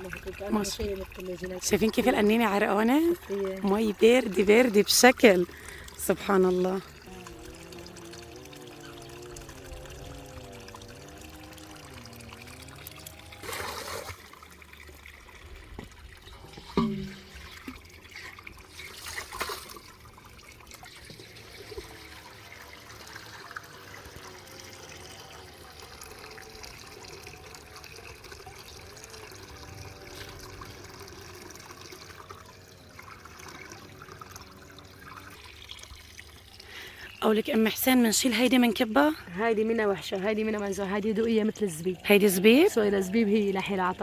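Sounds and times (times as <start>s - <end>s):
water splashing: 0.0s - 44.0s
water trickling: 0.0s - 44.0s.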